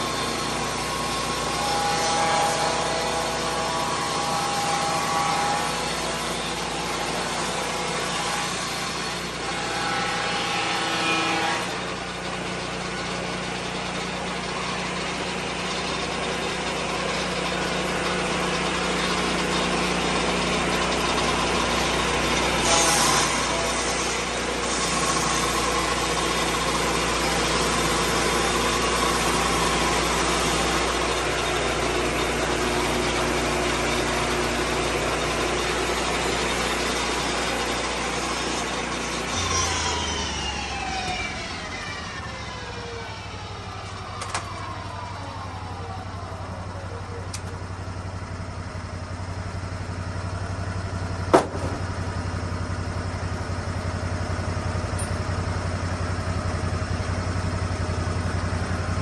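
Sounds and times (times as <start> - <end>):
sawmill engine idling: 0.0 - 59.0.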